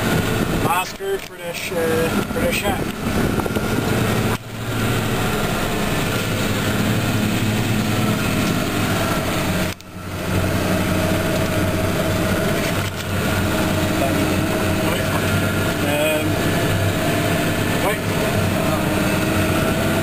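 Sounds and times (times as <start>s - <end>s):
engine running under load: 0.0s - 20.0s.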